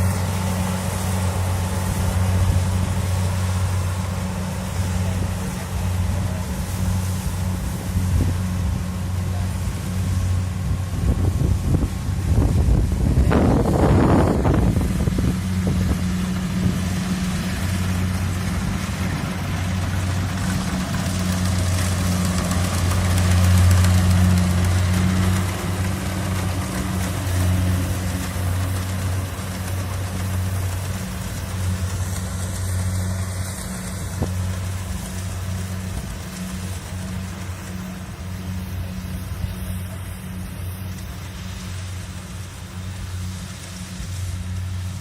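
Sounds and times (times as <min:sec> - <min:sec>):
combine harvester diesel engine: 0:00.0 - 0:45.0
machinery hiss: 0:00.0 - 0:45.0.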